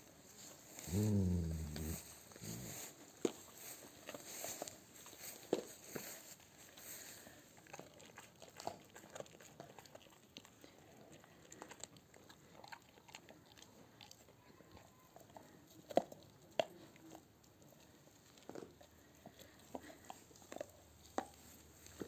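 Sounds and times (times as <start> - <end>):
dog gnawing on bone: 0.8 - 22.0.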